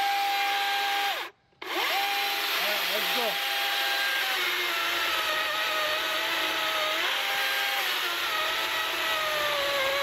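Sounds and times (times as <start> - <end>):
chainsaw motor whine: 0.0 - 10.0
chain cutting wood: 1.1 - 10.0.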